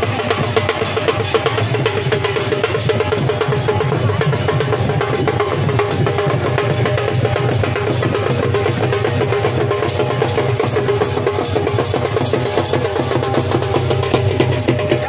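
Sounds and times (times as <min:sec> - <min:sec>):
drums beating dense rhythm: 0:00.0 - 0:15.0
metal cymbals: 0:00.0 - 0:15.0.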